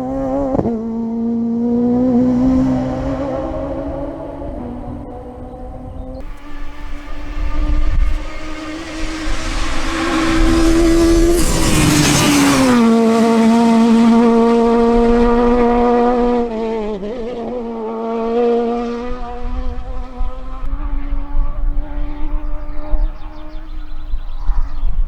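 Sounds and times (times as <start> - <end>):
rally car engine at full throttle: 0.0 - 24.9.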